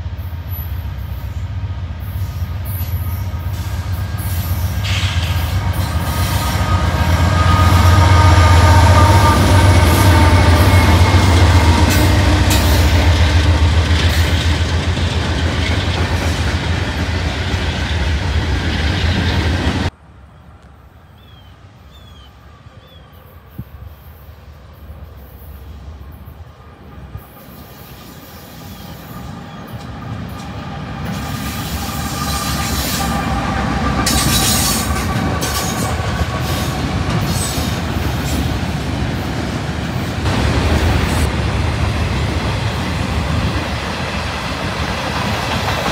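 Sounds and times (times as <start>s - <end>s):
diesel locomotive approaching: 0.0s - 45.9s
diesel locomotive engine drone: 0.0s - 45.9s
rail noise: 0.0s - 45.9s.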